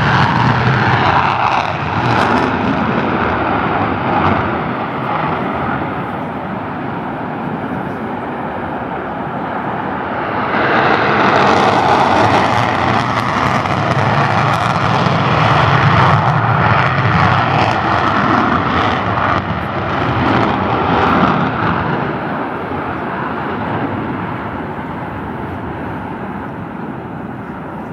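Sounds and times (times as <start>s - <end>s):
jet engine roar: 0.0s - 27.9s.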